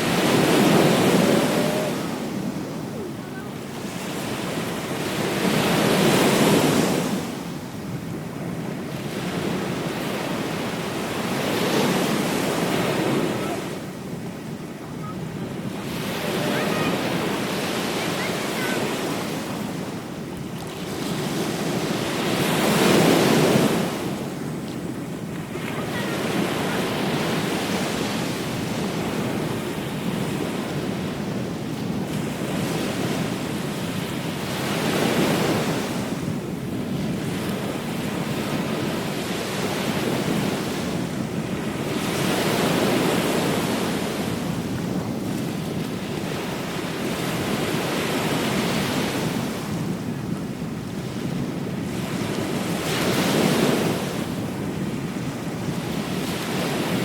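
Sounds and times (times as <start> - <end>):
ocean waves washing onto beach: 0.0 - 57.0
wind buffeting microphone: 0.0 - 57.0.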